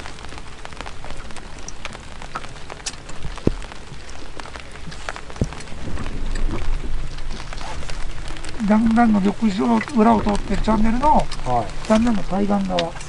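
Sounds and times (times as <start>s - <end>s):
raindrops ticking close by: 0.0s - 13.0s
steady rain: 0.0s - 13.0s.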